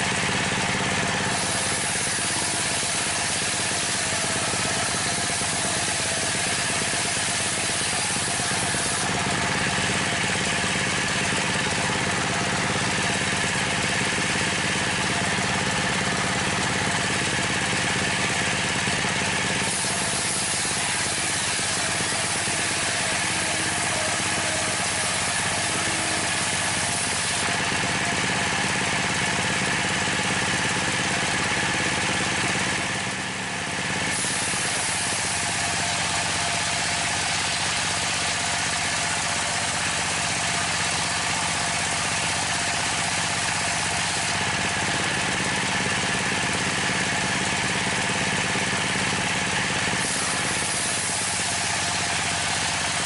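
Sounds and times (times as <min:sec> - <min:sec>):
circular saw cutting timber: 0:00.0 - 0:53.0
diesel engine running: 0:00.0 - 0:53.0.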